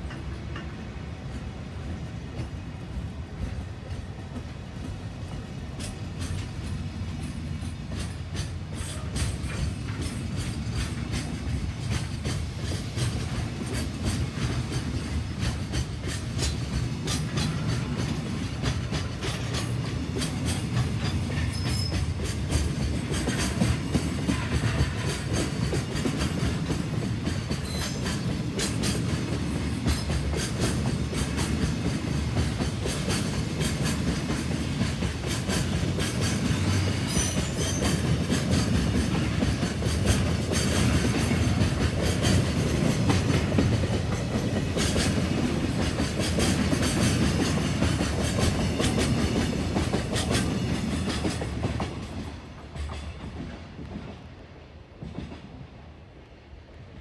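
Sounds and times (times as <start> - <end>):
freight train rumbling past: 0.0 - 57.0
wheels clicking over rail joints: 1.9 - 54.2.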